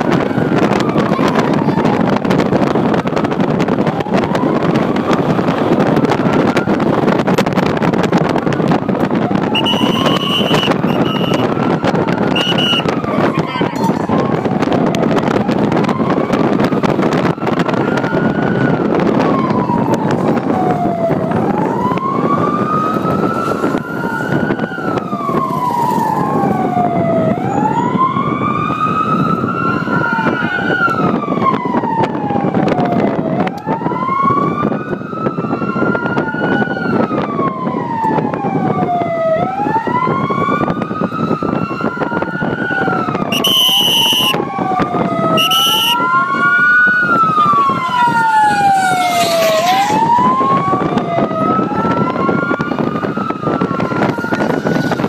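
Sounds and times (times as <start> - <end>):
moving vehicle and wind rushing: 0.0 - 55.0
siren wailing: 0.0 - 55.0.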